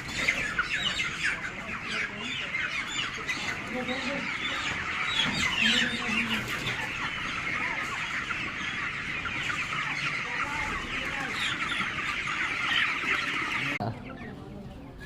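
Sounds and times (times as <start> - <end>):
chickens chirping and clucking: 0.0 - 15.0.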